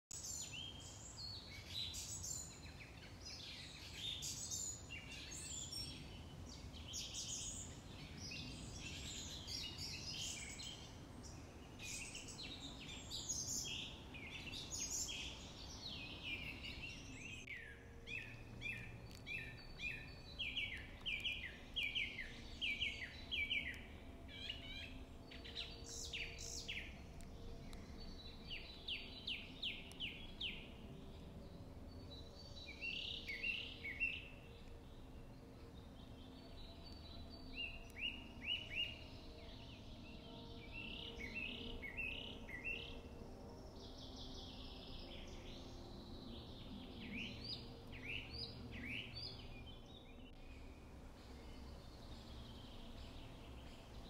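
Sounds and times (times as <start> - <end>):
birds singing and calling: 0.1 - 54.0
faint background noise: 0.2 - 54.0.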